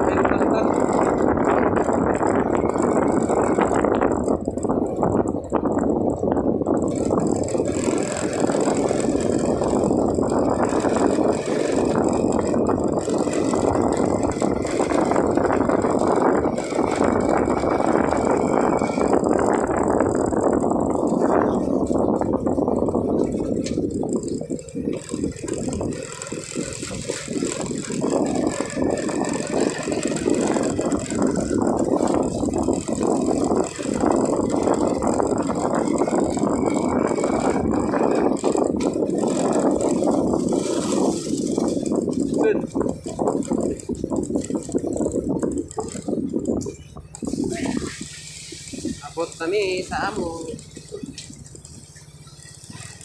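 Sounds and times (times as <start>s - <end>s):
fast mechanical rattle: 0.0s - 53.0s
road noise: 0.0s - 53.0s
small motorcycle engine: 0.0s - 53.0s.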